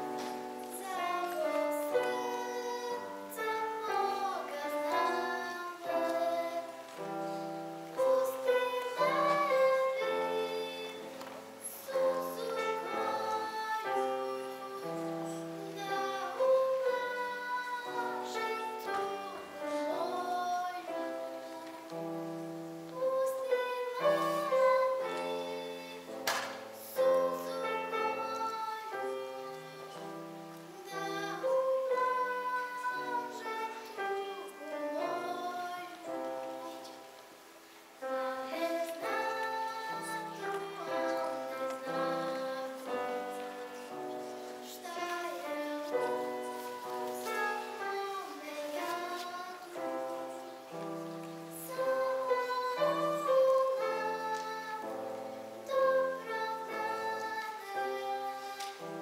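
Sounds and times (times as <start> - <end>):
girl singing: 0.0 - 59.0.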